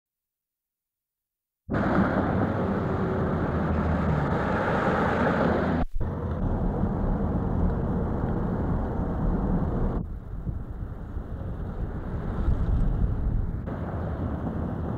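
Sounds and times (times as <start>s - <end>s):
highway traffic: 1.7s - 14.9s.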